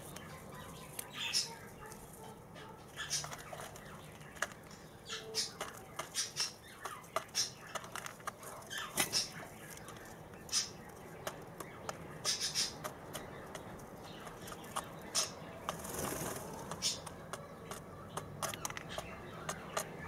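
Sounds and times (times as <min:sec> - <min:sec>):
light scratches and clicks: 0:00.0 - 0:20.0.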